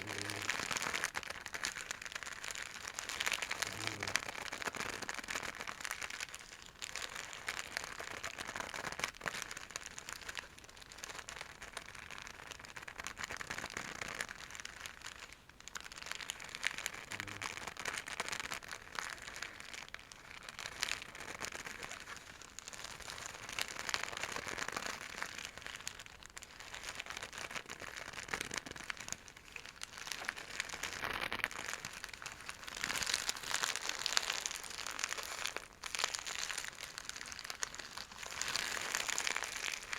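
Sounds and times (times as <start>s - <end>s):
silk bag crinkling: 0.0s - 39.9s.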